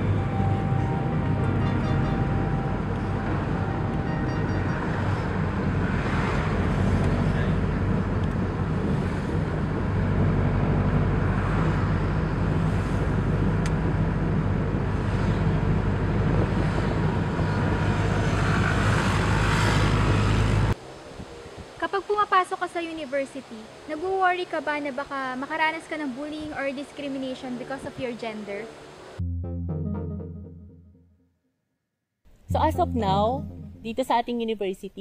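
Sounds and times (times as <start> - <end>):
road noise: 0.0 - 29.2
vehicle engine drone: 0.0 - 29.4.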